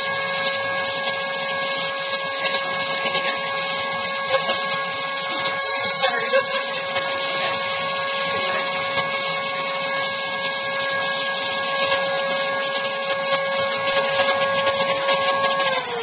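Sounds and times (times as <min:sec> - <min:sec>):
spray turbine high whine: 0:00.0 - 0:16.0.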